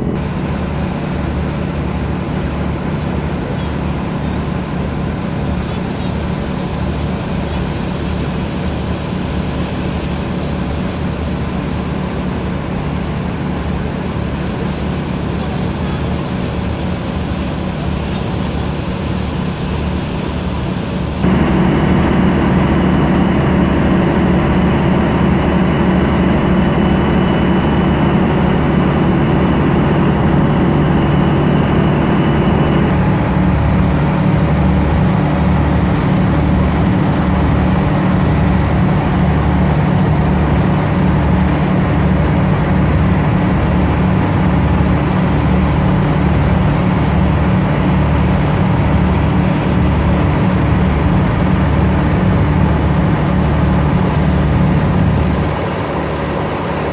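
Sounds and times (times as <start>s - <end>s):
ship engines pulsing hum: 0.0s - 56.9s.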